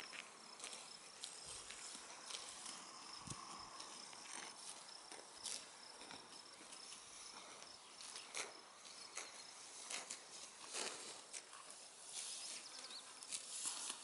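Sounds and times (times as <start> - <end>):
insects chirping: 0.0 - 10.4, 11.8 - 13.3
cattle tearing and chewing grass: 0.0 - 14.0.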